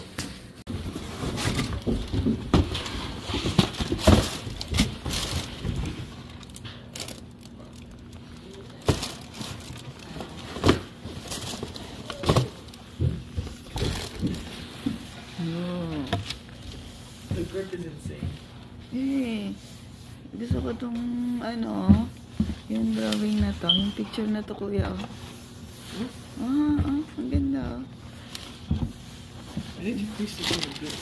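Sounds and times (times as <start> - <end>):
cardboard box and paper rustling: 0.7 - 17.9, 21.2 - 31.0.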